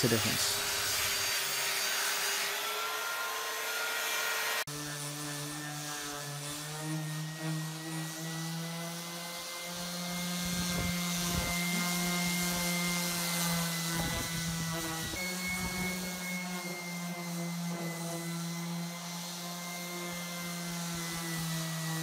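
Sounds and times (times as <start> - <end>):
belt sander motor whine: 0.0 - 22.0
orbital sander humming: 0.0 - 22.0.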